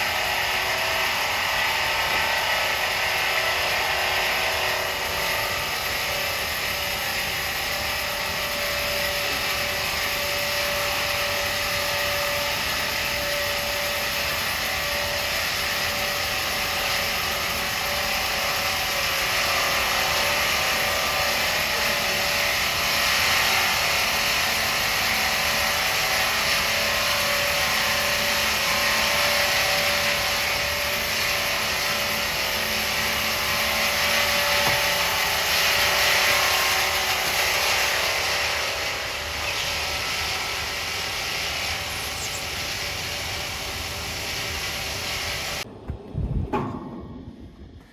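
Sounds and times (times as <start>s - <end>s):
sawmill machinery running: 0.0s - 46.0s
constant mechanical whine: 0.0s - 47.9s.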